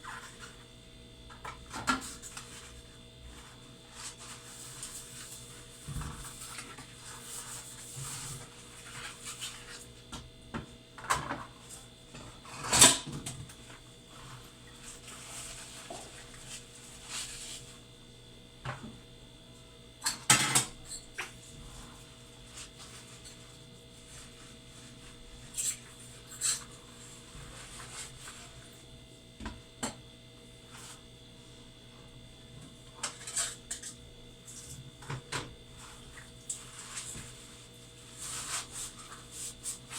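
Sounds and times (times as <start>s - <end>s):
refrigerator humming: 0.0s - 39.9s.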